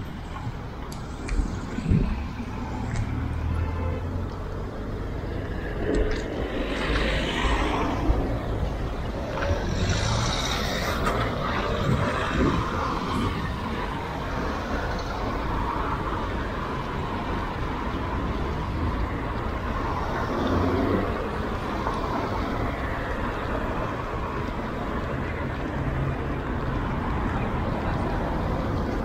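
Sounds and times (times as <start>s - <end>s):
cars driving past: 0.0s - 29.0s
rumble of engines and tyres: 0.0s - 29.0s.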